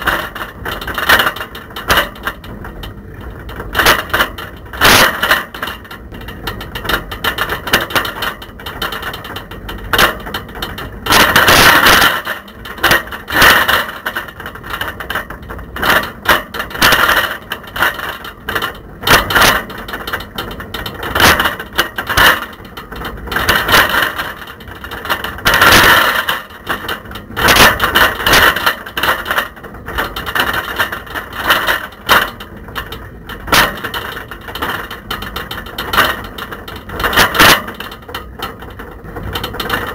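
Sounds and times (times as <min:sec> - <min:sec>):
camera rattling in bicycle basket: 0:00.0 - 0:39.9.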